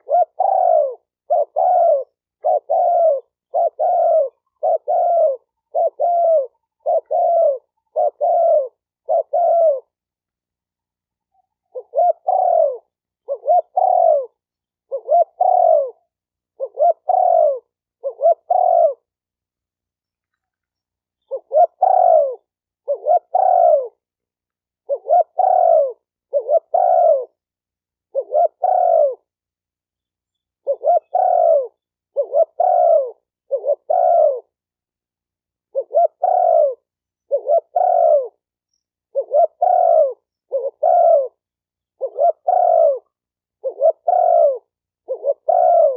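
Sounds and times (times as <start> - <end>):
dove cooing: 0.0 - 10.0, 11.6 - 19.2, 21.2 - 24.1, 24.8 - 27.4, 28.0 - 29.3, 30.6 - 34.6, 35.6 - 38.5, 39.1 - 45.9.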